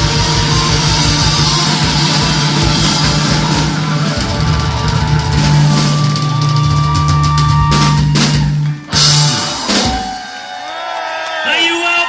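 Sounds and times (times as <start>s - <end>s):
drum and cymbal crashes: 0.0s - 10.3s
live rock band playing: 0.0s - 10.7s.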